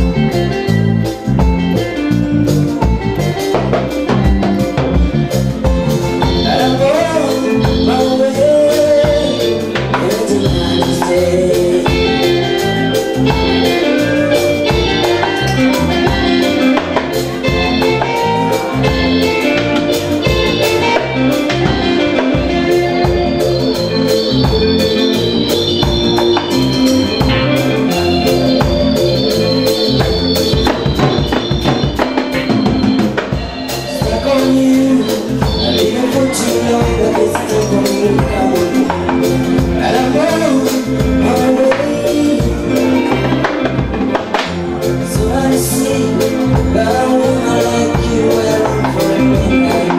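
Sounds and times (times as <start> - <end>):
bass: 0.0 - 49.9
organ-like keyboard chords: 0.0 - 49.9
steady drum beat: 0.0 - 49.9.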